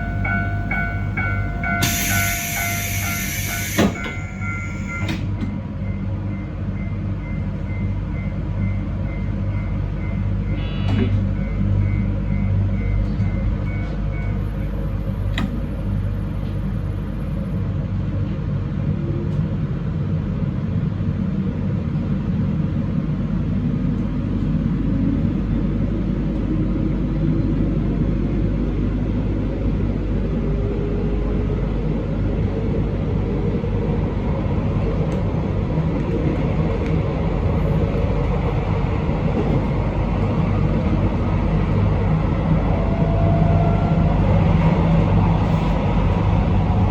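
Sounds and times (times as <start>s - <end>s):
train rumbling on track: 0.0s - 46.9s.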